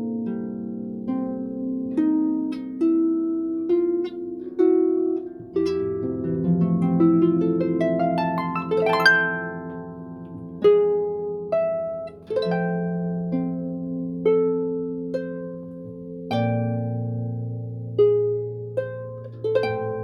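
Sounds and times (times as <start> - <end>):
plucked-string instrumental music: 0.0 - 20.0.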